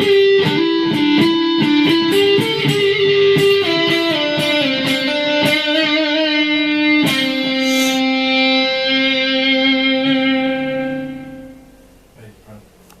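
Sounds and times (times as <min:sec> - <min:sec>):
electric guitar notes ringing: 0:00.0 - 0:11.9.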